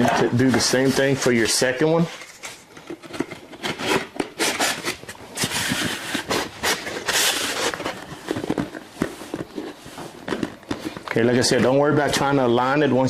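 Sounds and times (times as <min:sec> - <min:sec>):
plastic scraping on polystyrene: 0:00.0 - 0:12.6.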